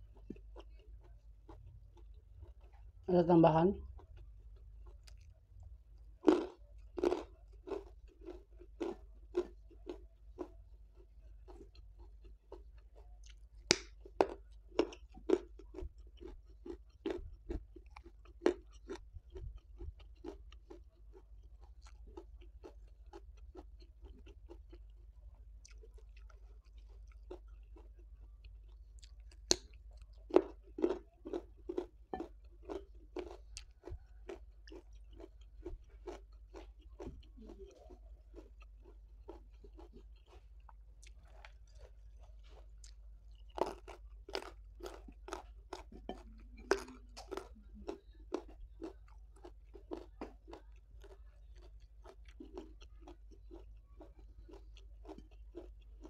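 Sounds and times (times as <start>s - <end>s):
person chewing crunchy food: 0.0s - 3.1s, 3.8s - 56.0s.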